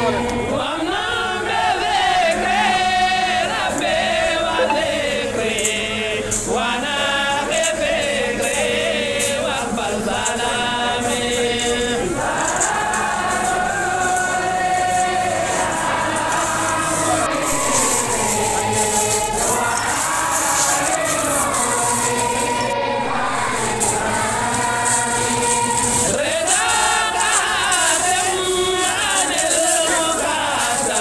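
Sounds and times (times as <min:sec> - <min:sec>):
group of voices chanting: 0:00.0 - 0:31.0.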